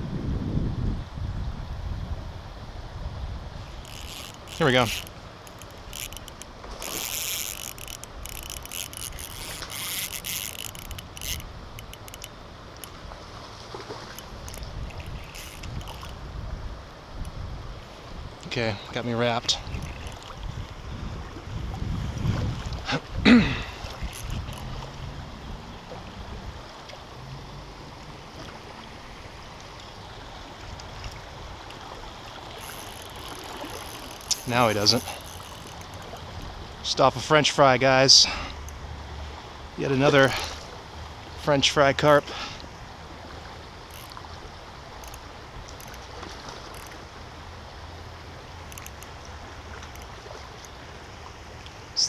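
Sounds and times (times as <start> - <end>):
creek water rushing: 1.6 - 52.0.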